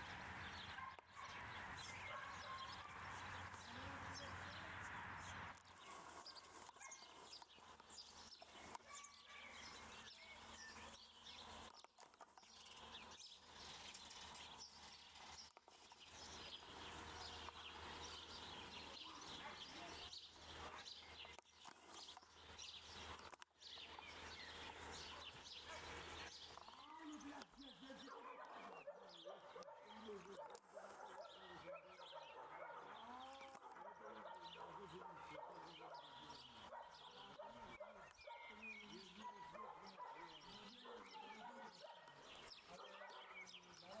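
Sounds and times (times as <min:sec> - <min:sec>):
distant birds chirping: 0:00.0 - 0:44.0.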